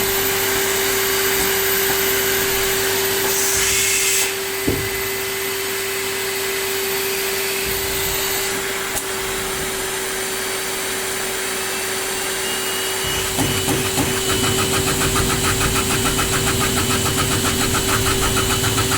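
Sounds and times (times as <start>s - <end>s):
cnc machine whine: 0.0s - 18.9s.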